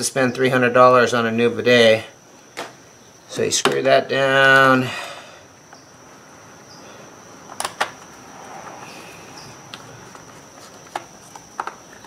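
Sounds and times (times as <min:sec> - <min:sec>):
steady high-pitched whine: 0:00.0 - 0:12.0.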